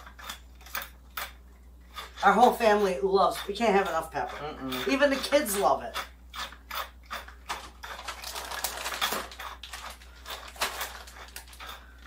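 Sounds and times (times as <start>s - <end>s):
pepper mill grinding: 0.0s - 12.0s.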